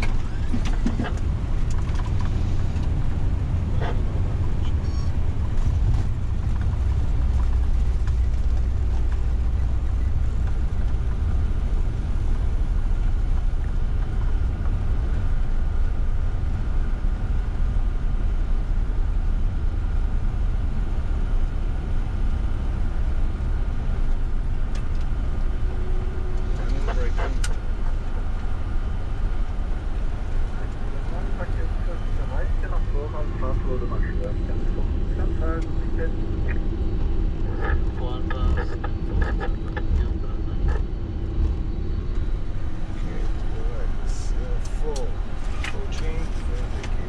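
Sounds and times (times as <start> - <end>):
airliner engines rumbling on runway: 0.0 - 47.0
faint steady whine: 0.0 - 47.0.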